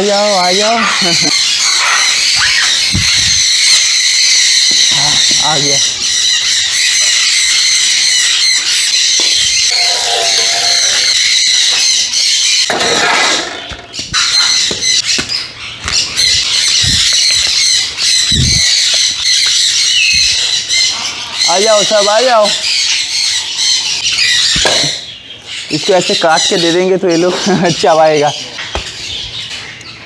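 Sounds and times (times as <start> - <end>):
parrots screeching and squawking: 0.0 - 30.0.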